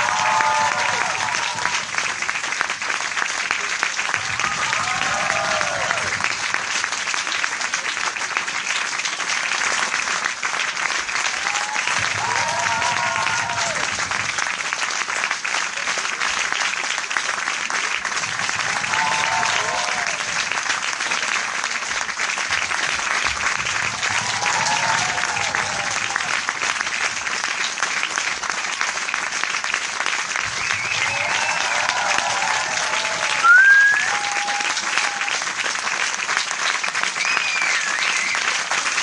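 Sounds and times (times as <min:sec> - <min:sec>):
audience applauding: 0:00.0 - 0:39.0.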